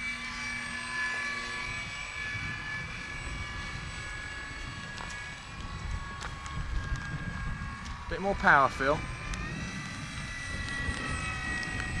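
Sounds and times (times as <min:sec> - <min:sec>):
model airplane motor whine: 0:00.0 - 0:12.0
wind rumble on microphone: 0:00.6 - 0:12.0.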